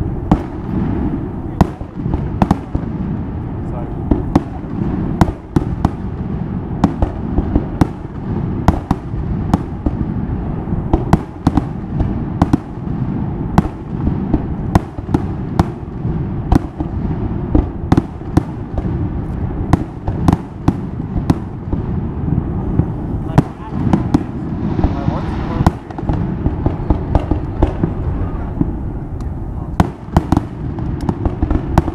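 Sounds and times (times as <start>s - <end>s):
fireworks bursting with sharp bangs: 0.0s - 31.9s
low rumble: 0.0s - 31.9s.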